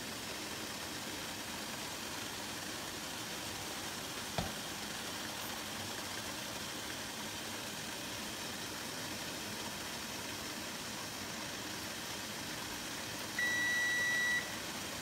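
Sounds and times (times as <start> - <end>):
steamer pan boiling hiss: 0.0 - 15.0.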